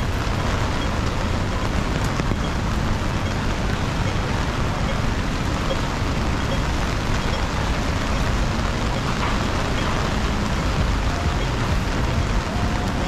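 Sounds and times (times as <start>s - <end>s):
rain on an umbrella: 0.0s - 13.0s
traffic on wet road: 0.0s - 13.0s.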